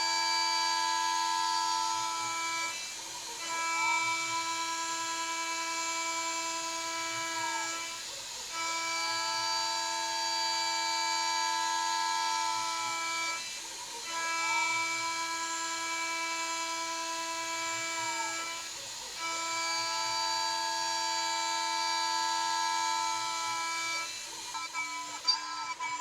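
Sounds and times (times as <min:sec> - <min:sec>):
spindle whining while milling metal: 0:00.0 - 0:26.0.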